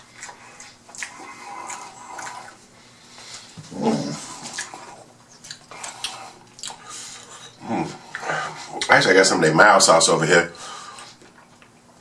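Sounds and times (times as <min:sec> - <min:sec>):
chewing with mouth clicks: 0:00.0 - 0:08.9, 0:11.0 - 0:12.0.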